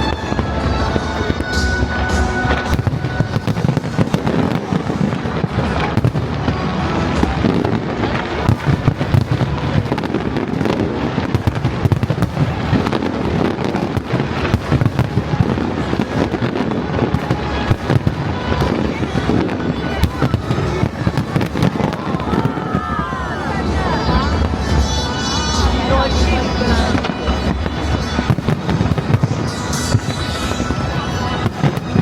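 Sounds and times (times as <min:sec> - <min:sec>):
fireworks crackling and banging: 0:00.0 - 0:32.0.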